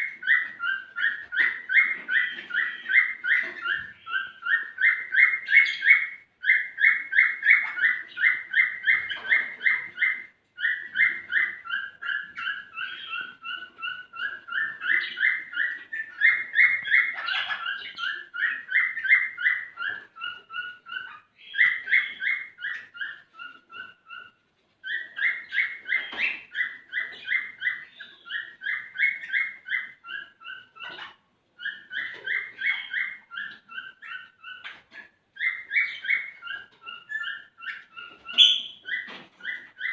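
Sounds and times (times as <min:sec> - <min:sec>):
cockatiel whistling song: 0:00.0 - 0:34.8, 0:35.4 - 0:39.9.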